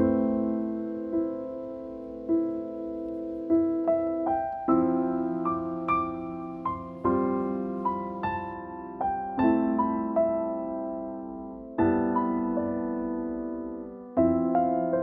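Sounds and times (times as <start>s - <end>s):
slow gentle piano piece: 0.0s - 15.0s.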